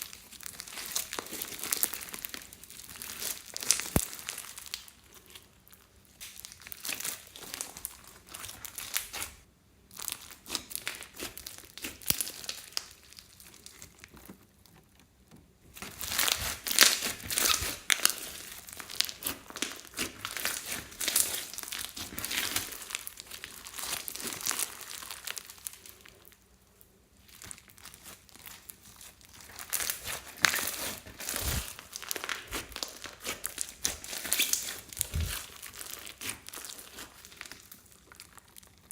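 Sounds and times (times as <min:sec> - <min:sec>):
foam beads crackling and popping: 0:00.0 - 0:09.4, 0:10.0 - 0:14.7, 0:15.7 - 0:26.4, 0:27.2 - 0:38.9
hands squishing slime: 0:00.0 - 0:09.4, 0:10.0 - 0:14.3, 0:15.7 - 0:26.1, 0:27.2 - 0:38.9.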